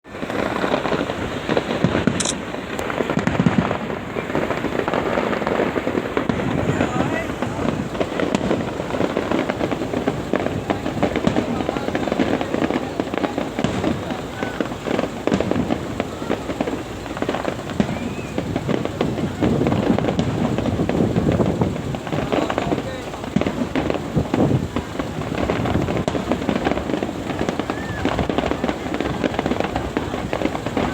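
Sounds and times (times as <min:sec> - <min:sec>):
fireworks crackling: 0:00.0 - 0:30.9
high firework whistle: 0:00.1 - 0:30.9.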